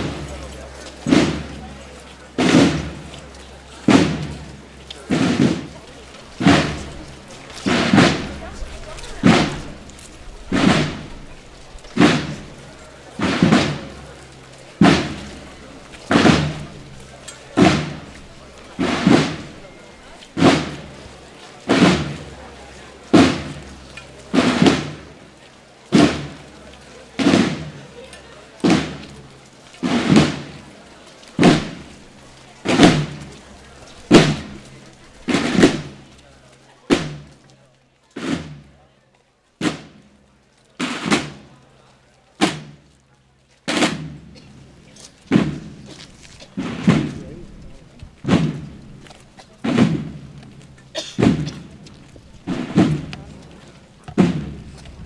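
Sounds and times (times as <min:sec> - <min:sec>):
heavy processional drum strikes: 0:00.0 - 0:25.3, 0:25.9 - 0:36.2, 0:36.9 - 0:37.5, 0:38.2 - 0:38.7, 0:39.6 - 0:40.2, 0:40.8 - 0:41.6, 0:42.4 - 0:42.9, 0:43.7 - 0:55.0.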